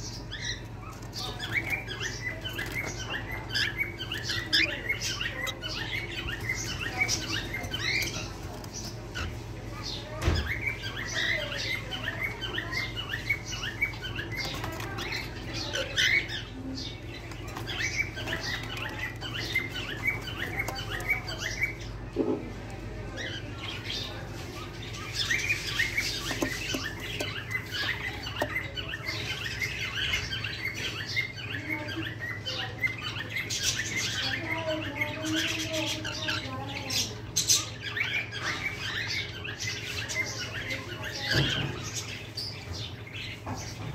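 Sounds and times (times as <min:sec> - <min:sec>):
cockatiel chicks chirping: 0:00.0 - 0:43.9.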